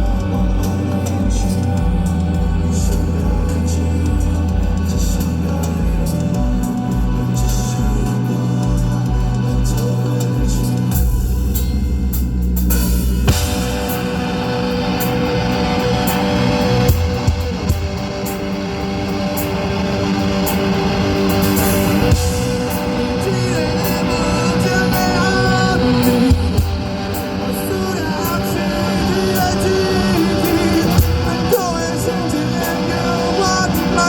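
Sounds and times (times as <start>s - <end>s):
drum kit beat: 0.0s - 34.0s
electric guitars: 0.0s - 34.0s
low bass drone: 0.0s - 34.0s.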